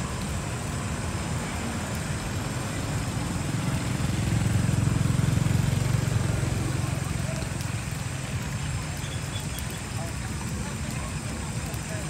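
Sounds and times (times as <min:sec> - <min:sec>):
small engine pulsing rumble: 0:00.1 - 0:12.0.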